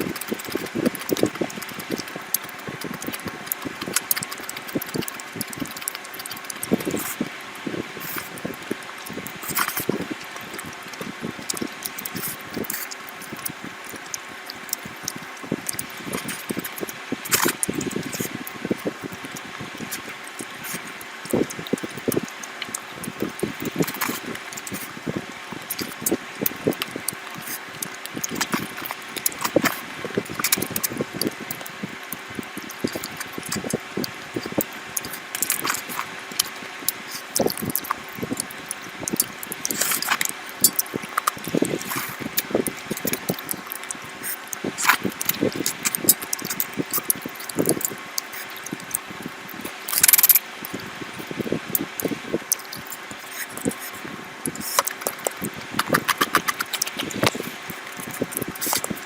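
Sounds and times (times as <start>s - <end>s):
chewing and wet smacking: 0.0s - 59.0s
faint steady hum: 0.0s - 59.0s.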